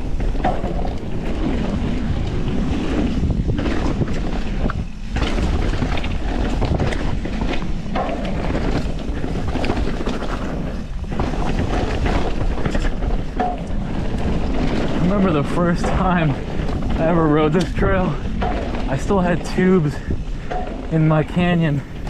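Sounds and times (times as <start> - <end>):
bike clattering over bumps: 0.0 - 22.0
tyres rumbling over dirt: 0.0 - 22.0
wind on microphone: 0.0 - 22.0.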